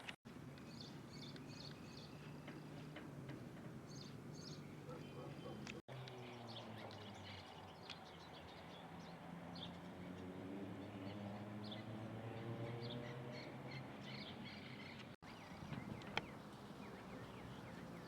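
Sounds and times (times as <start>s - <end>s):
small birds chirping: 0.3s - 18.0s.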